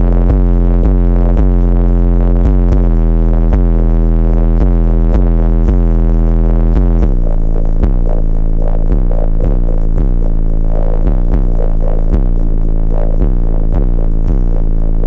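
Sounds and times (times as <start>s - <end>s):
deep synth bass from car speakers: 0.0s - 15.0s.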